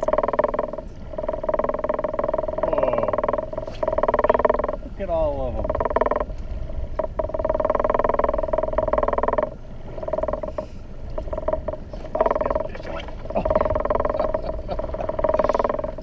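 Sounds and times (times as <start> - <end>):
loud vibrating buzz: 0.0 - 16.0.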